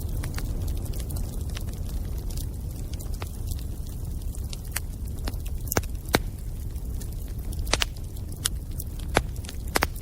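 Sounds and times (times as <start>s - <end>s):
bonfire flames: 0.0s - 10.0s
fire crackling pops: 0.0s - 10.0s.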